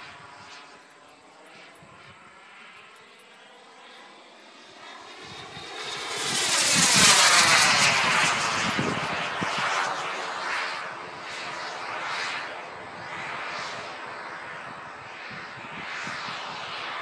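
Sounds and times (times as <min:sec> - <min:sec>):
model jet whine flying past: 0:00.0 - 0:17.0.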